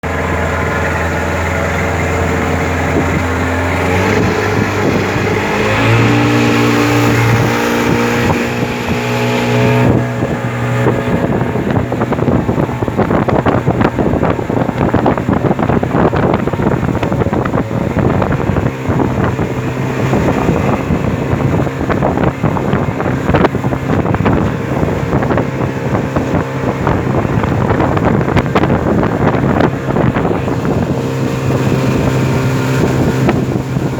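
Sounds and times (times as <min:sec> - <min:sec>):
motorboat engine: 0:00.0 - 0:33.9
wind and water rushing: 0:00.0 - 0:33.9.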